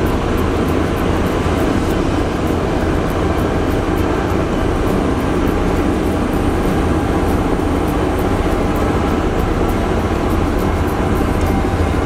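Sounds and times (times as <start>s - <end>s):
diesel engines droning: 0.0s - 12.0s.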